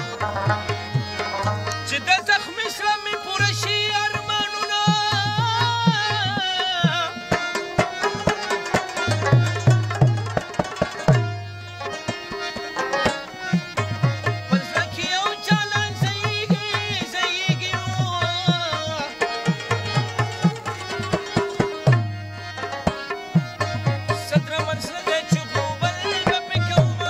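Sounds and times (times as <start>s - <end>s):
harmonium: 0.0s - 27.0s
man singing with vibrato: 0.0s - 27.0s
tabla rhythm: 0.0s - 27.0s.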